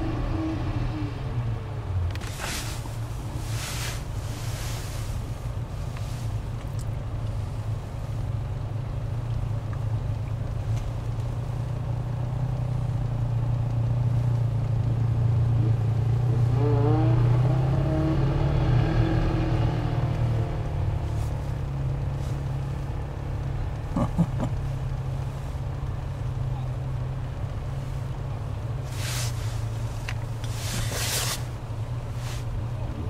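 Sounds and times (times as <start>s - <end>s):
tires struggling for grip: 0.0s - 33.0s.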